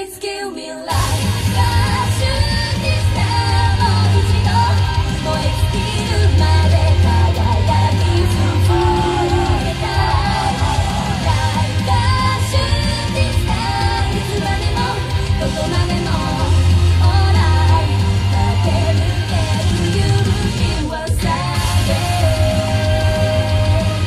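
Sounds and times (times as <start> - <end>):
women singing and shouting: 0.0 - 24.0
hard rock music: 0.9 - 24.0.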